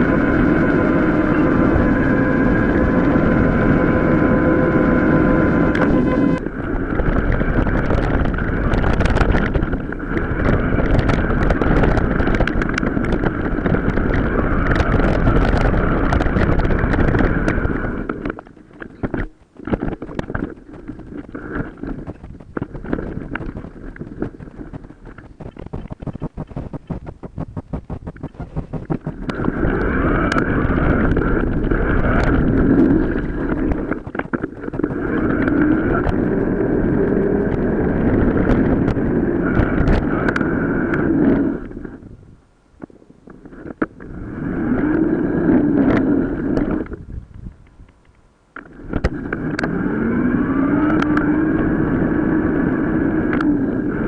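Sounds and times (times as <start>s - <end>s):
mountain bike rattle and tyre noise: 0.0s - 42.2s, 42.9s - 54.0s
wind buffeting microphone: 0.0s - 42.5s, 43.3s - 54.0s.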